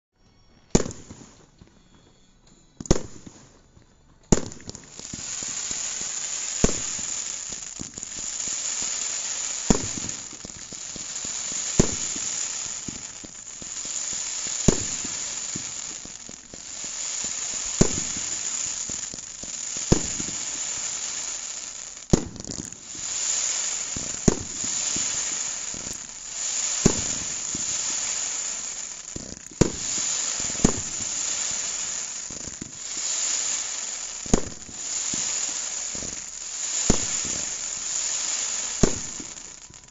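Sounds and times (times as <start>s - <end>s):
firework reports: 4.3s - 39.9s
steady firework hiss: 4.3s - 39.9s.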